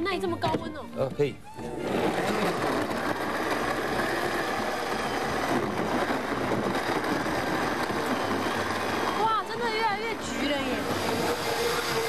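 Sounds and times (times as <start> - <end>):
blender running at high speed: 1.6 - 12.0.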